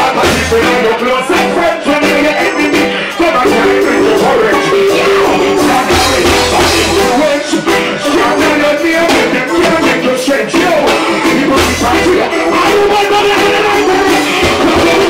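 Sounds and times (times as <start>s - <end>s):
live reggae band music: 0.0s - 15.0s
man singing into microphone: 0.0s - 15.0s.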